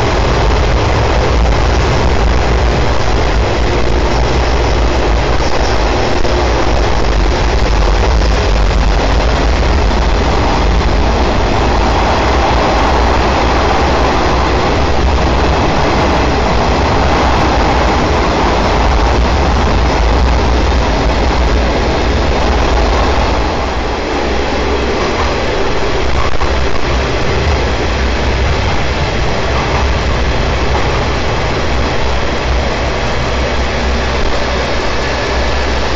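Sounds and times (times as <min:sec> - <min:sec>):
diesel train engine rumble: 0:00.0 - 0:35.9
wheels roaring on rail: 0:00.0 - 0:35.9.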